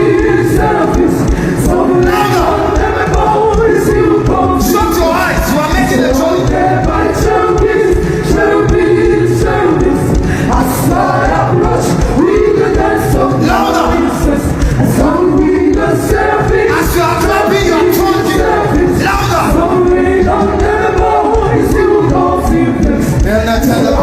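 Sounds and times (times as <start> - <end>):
steady low beat: 0.0 - 24.0
voices singing together: 0.0 - 24.0.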